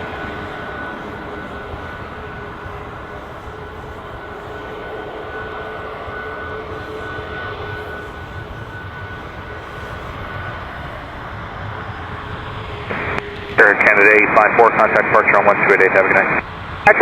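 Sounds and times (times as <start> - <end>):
jet engine noise with whine: 0.0 - 17.0.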